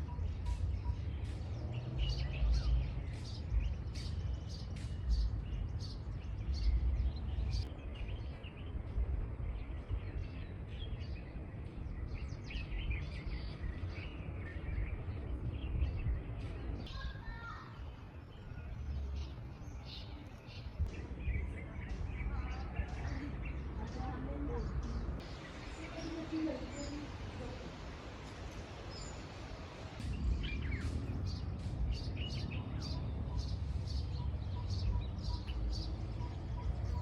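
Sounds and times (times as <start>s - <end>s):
low outdoor rumble: 0.0s - 37.0s
small birds chirping: 0.0s - 37.0s.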